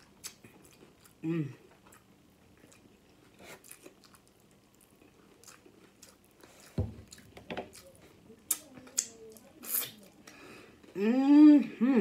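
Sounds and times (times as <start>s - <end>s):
crunchy taco chewing: 0.0s - 10.4s.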